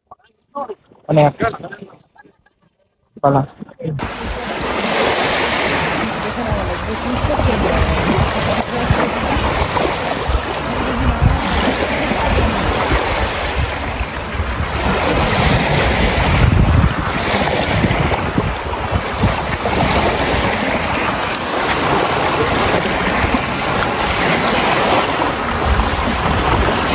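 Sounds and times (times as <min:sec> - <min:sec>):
waves breaking on sand beach: 0:04.0 - 0:26.9
wind rumble on microphone: 0:04.0 - 0:26.9.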